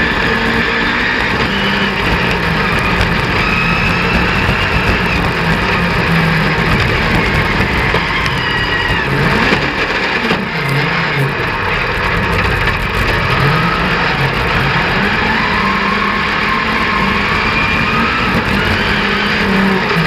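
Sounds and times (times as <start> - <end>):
racing buggy engine: 0.0 - 20.0
wind and track noise: 0.0 - 20.0.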